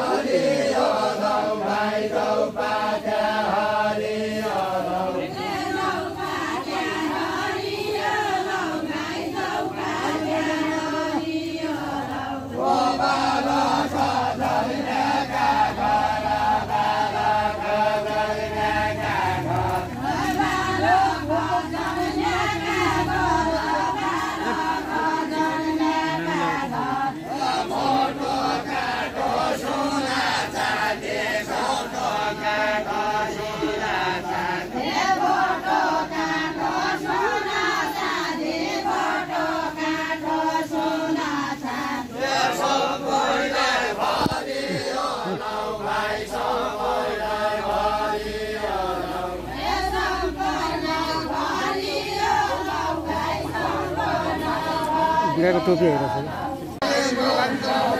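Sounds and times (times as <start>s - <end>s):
group singing unaccompanied: 0.0s - 57.9s.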